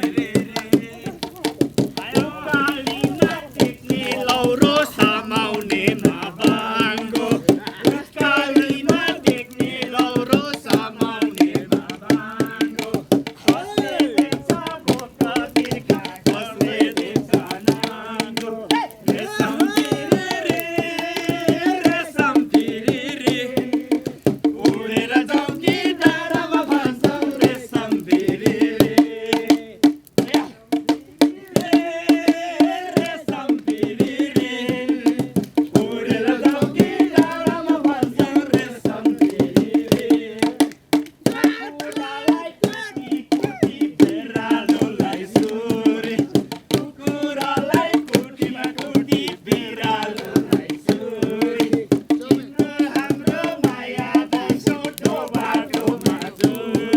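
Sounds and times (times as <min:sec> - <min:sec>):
hand drum beat: 0:00.0 - 0:56.9
person singing folk song: 0:00.0 - 0:56.9.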